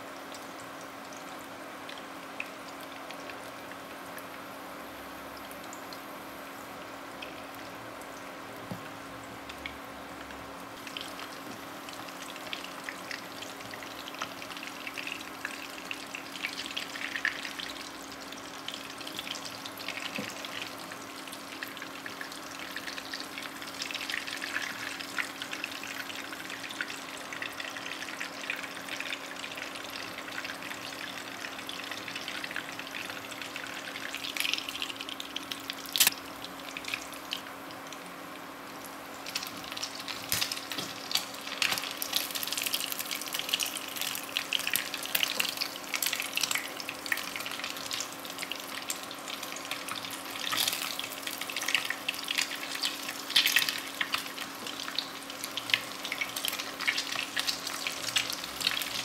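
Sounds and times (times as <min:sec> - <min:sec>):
oil sizzling and crackling: 0:00.0 - 0:59.0.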